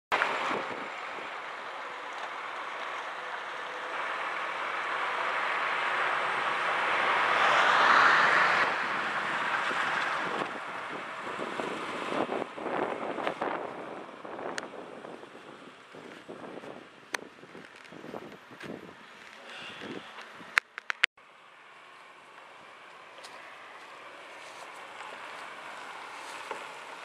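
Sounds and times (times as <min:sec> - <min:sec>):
truck engine driving off: 0:00.1 - 0:20.0, 0:21.5 - 0:27.0.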